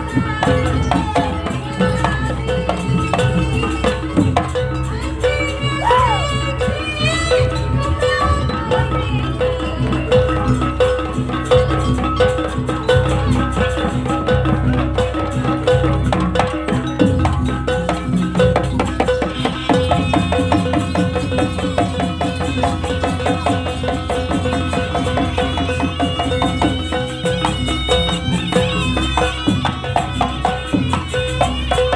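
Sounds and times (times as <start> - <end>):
gamelan drums: 0.0 - 31.9
ringing metallophone tones: 0.0 - 31.9.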